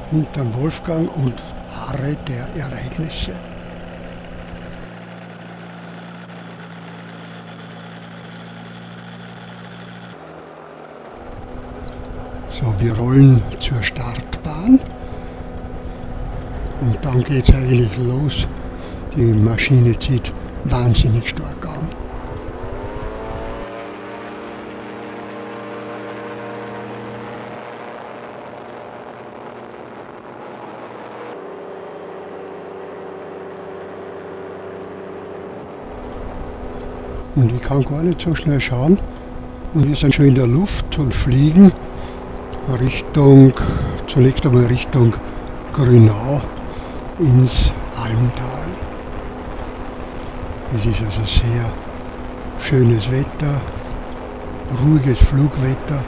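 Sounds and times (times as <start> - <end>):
microlight engine and propeller: 0.0 - 56.0.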